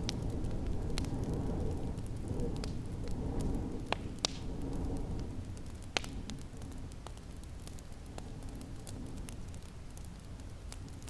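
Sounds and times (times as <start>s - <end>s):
low rumble of storm wind: 0.0s - 11.0s
wood fire crackling and popping: 0.0s - 11.0s.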